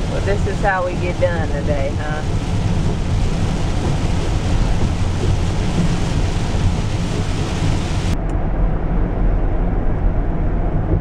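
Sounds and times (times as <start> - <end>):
van road rumble: 0.0 - 11.0.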